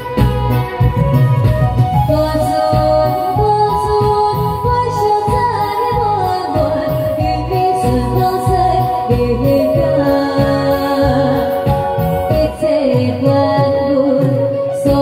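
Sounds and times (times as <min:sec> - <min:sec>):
backing track with steady beat: 0:00.0 - 0:15.0
woman singing into microphone: 0:00.0 - 0:15.0.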